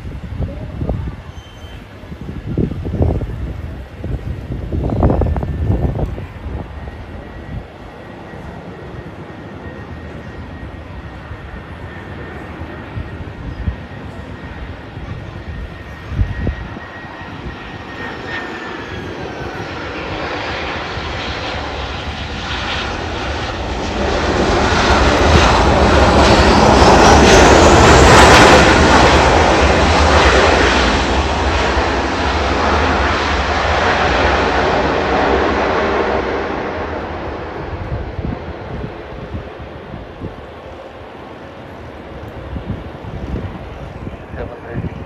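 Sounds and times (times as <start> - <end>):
jet engines whining: 0.0 - 45.0.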